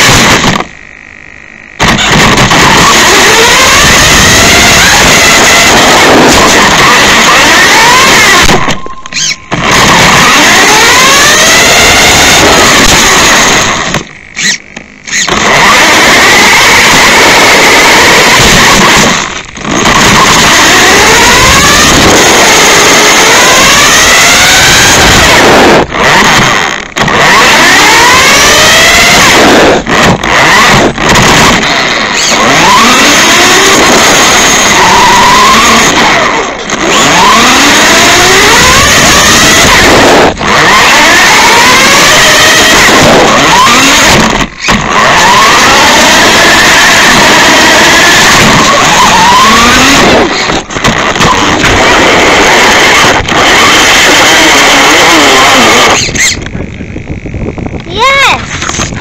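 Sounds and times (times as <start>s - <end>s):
steady rushing noise: 0.0s - 59.0s
toy car motor whining: 0.0s - 59.0s.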